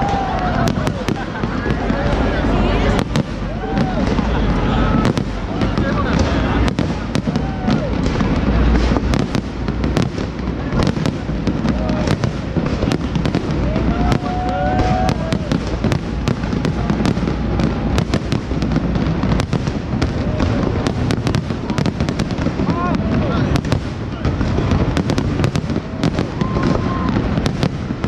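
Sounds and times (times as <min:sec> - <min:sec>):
continuous low rumble: 0:00.0 - 0:28.0
fireworks bangs and crackles: 0:00.0 - 0:28.0.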